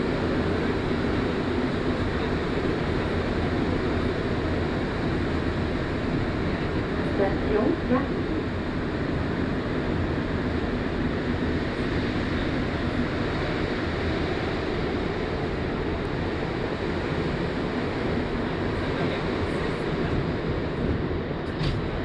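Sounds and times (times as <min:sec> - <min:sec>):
metro car running: 0:00.0 - 0:22.0.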